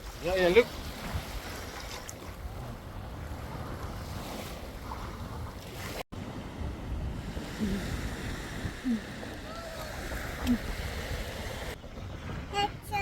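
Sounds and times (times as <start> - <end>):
waves washing on shore: 0.0 - 12.6
wind buffeting microphone: 0.0 - 13.0.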